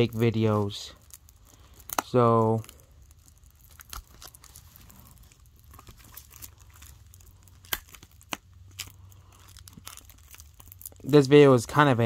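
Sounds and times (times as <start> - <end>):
plastic wrap crinkling and tearing: 0.0 - 12.0.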